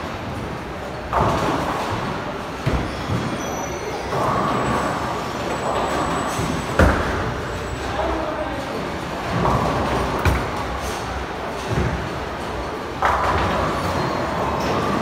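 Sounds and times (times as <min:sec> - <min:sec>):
bowling balls rumbling down lanes: 0:00.1 - 0:15.0
background chatter: 0:00.2 - 0:15.0.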